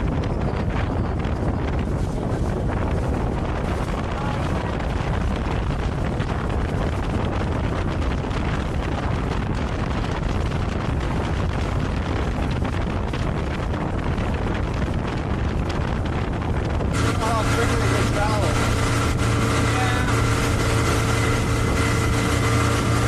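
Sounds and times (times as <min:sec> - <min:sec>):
motorboat running at speed: 0:00.0 - 0:23.0
wind buffeting microphone: 0:00.0 - 0:23.0.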